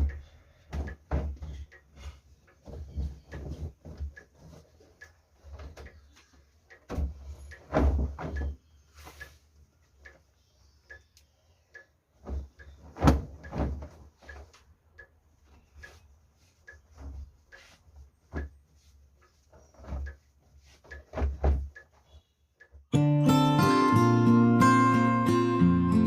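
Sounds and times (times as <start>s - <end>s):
faint ticking: 0.0s - 22.8s.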